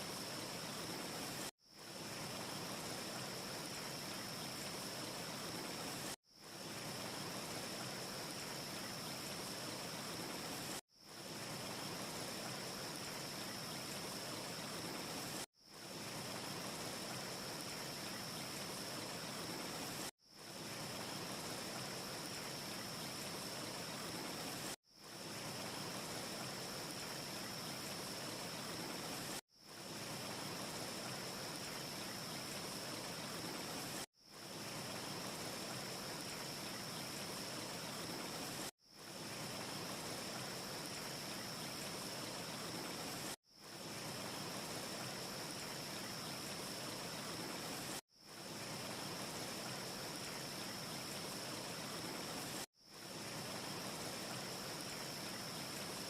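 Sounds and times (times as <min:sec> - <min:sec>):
faint high hiss: 0:00.0 - 0:56.0.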